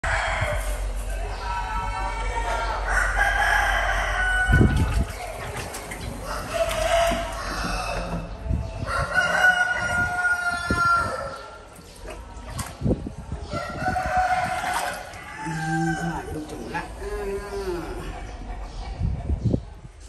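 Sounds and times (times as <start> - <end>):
chickens calling: 0.0 - 19.7.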